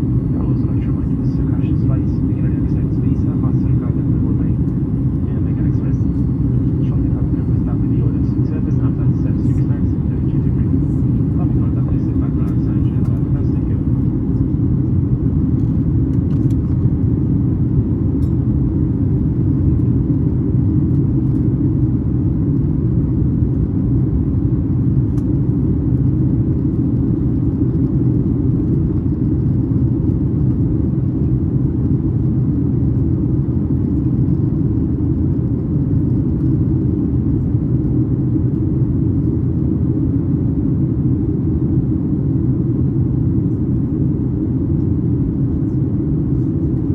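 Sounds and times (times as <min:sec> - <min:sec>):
aircraft cabin engine rumble: 0:00.0 - 0:46.9.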